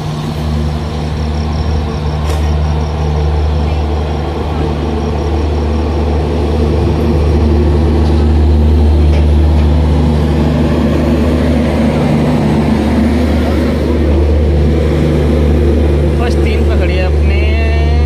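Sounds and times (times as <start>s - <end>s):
train running drone: 0.0s - 18.0s.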